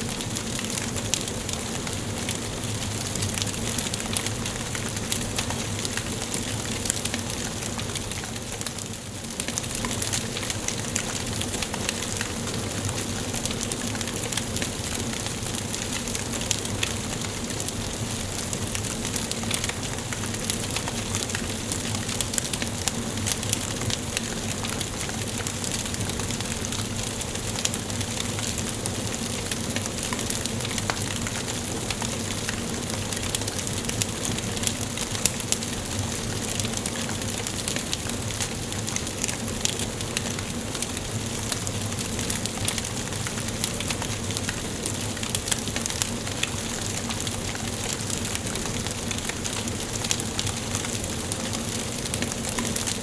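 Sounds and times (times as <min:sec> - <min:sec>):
wood fire crackling: 0:00.0 - 0:53.0
fire pops and snaps: 0:00.1 - 0:53.0.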